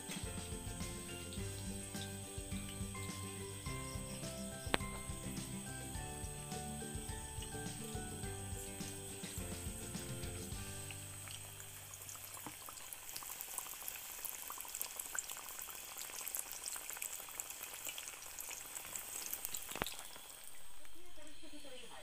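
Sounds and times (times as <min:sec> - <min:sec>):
food deep-frying in oil: 0:00.0 - 0:21.8.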